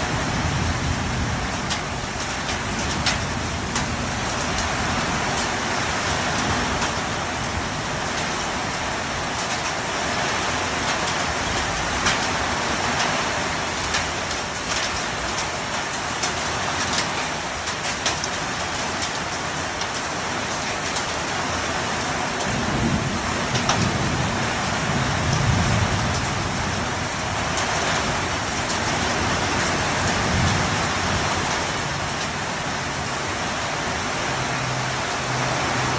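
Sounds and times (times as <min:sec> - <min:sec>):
hailstones striking: 0:00.0 - 0:32.8
heavy rain hissing: 0:00.0 - 0:35.9.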